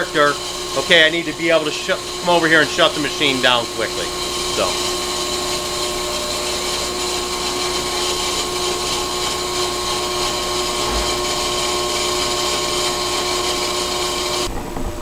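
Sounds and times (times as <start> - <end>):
brake lathe whining: 0.0 - 15.0.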